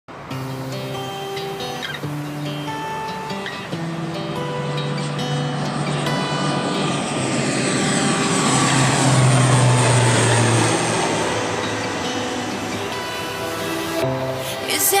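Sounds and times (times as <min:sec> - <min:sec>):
airplane engine passing: 0:00.1 - 0:15.0.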